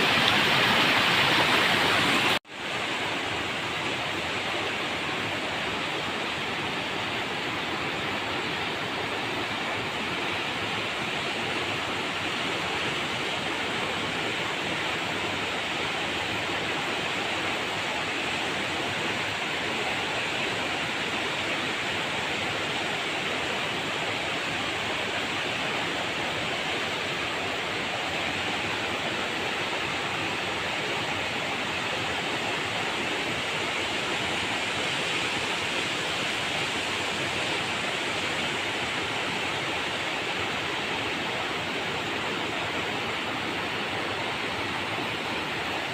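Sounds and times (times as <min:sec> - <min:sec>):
river water rushing over rocks: 0:00.0 - 0:45.9.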